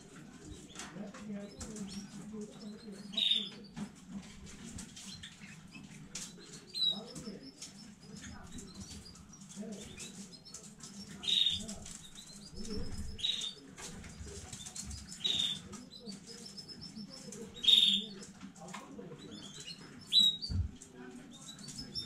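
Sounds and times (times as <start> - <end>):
soft clicks and rustling: 0.0 - 17.5, 18.1 - 22.0
canary chirping: 0.0 - 22.0.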